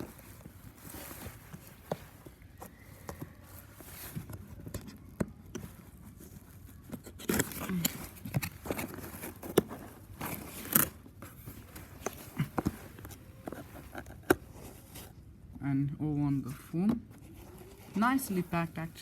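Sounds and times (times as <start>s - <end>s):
cardboard box being opened: 0.0s - 15.2s.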